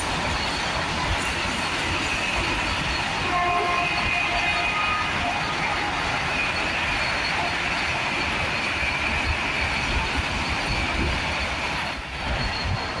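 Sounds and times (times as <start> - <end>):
high-pitched squeal: 0.0 - 13.0
train wheels rumbling on rails: 0.0 - 13.0.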